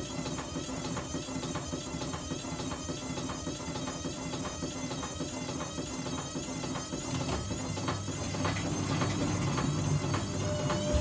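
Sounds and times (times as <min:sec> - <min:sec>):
washing machine motor whine: 0:00.0 - 0:11.0.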